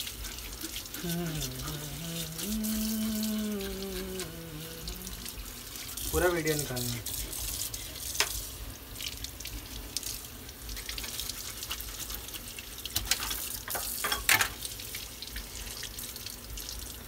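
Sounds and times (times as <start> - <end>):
faucet water splashing: 0.0 - 17.0.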